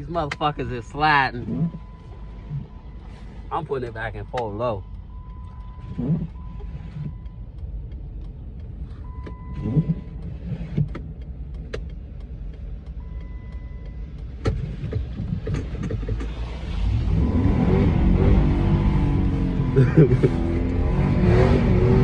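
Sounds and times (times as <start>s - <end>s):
engine low rumble: 0.0s - 22.0s.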